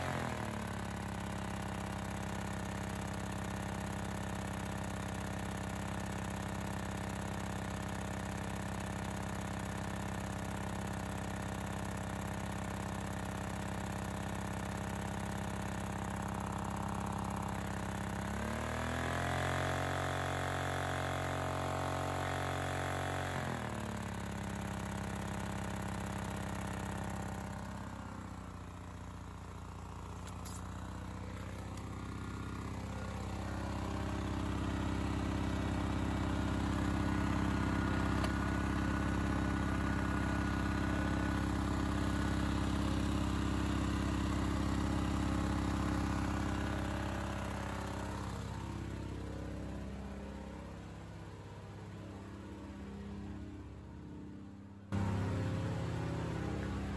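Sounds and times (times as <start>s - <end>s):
portable generator engine revving: 0.0s - 7.6s, 13.4s - 53.8s, 54.9s - 56.9s.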